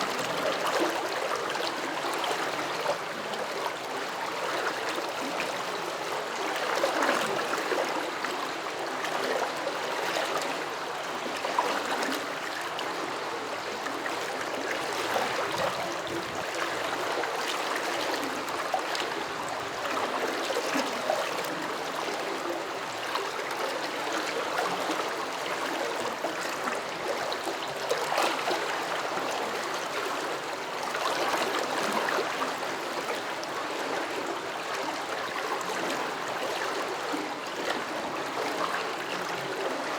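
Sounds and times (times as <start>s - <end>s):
stream water gurgling over stones: 0.0s - 39.9s.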